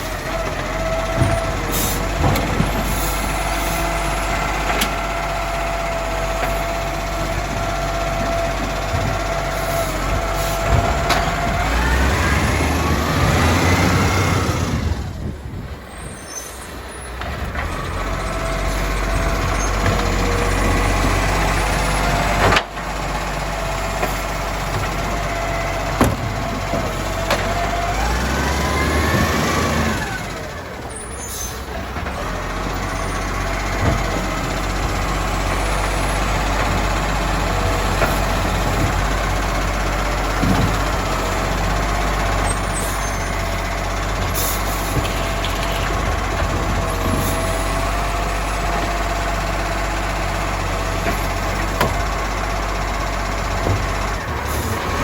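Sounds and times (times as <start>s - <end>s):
garbage truck diesel engine: 0.0s - 55.0s.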